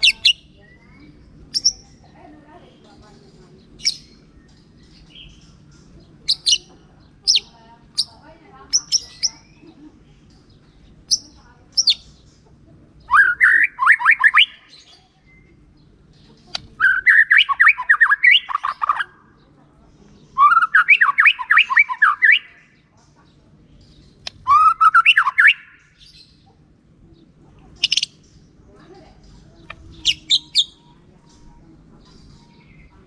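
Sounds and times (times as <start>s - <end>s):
bird singing: 0.0s - 33.0s.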